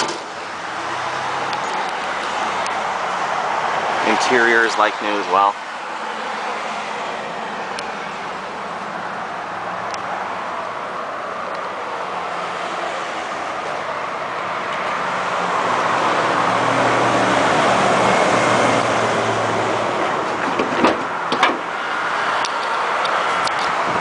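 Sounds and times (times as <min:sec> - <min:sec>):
road traffic going by: 0:00.0 - 0:24.0.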